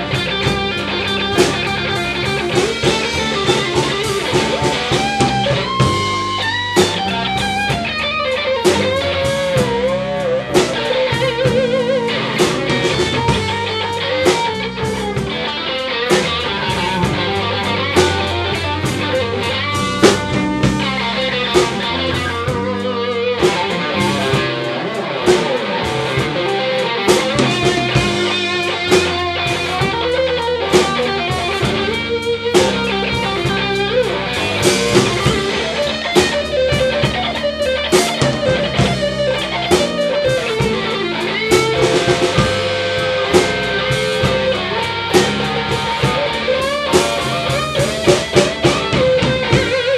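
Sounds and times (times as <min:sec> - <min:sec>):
electric guitars playing blues: 0:00.0 - 0:49.9
steady drum beat: 0:00.0 - 0:49.9.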